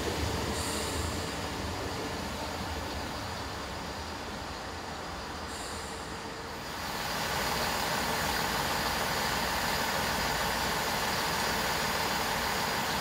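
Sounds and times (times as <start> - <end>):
diesel train engines running: 0.0 - 13.0
wheels rumbling on rail: 0.0 - 13.0.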